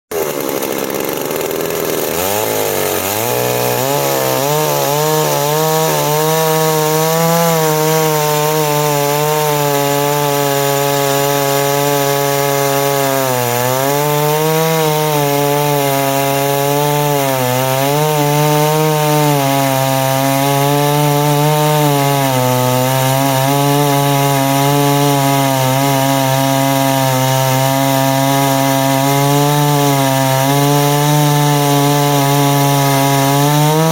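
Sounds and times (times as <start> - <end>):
chainsaw running at high revs: 0.0 - 33.9.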